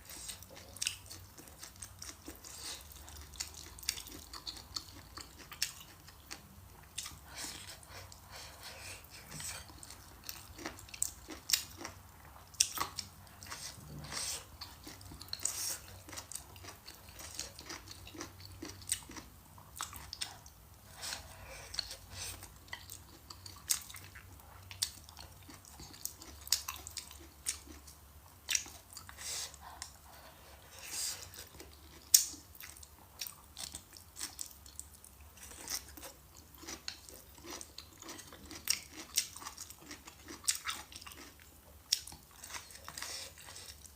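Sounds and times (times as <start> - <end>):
chewing crunchy food: 0.0 - 43.9.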